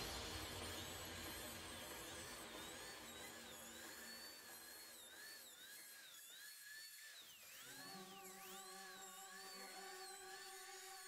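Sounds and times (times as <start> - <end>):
dental drill whine: 0.0 - 11.0.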